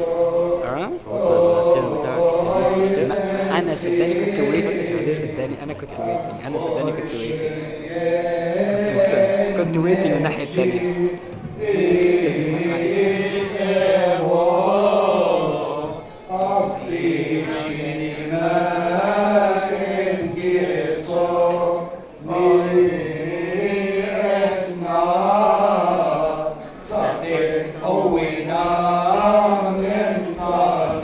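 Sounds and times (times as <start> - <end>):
voices singing liturgical chant: 0.0 - 31.0.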